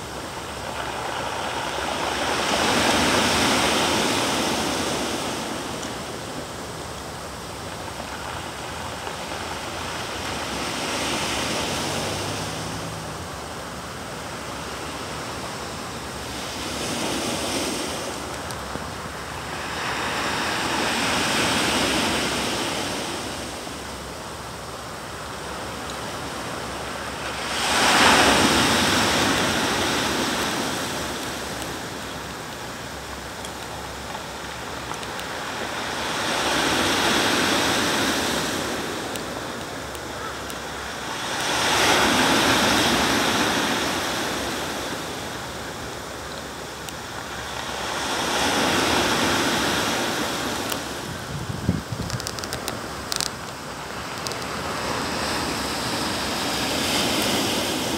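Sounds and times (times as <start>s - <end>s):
waves breaking on pebble beach: 0.0s - 57.9s.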